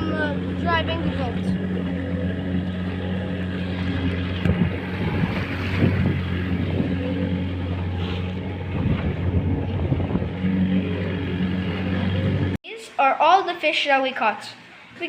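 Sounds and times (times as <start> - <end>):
boat motor running: 0.0 - 12.6
wind buffeting microphone: 0.0 - 12.6.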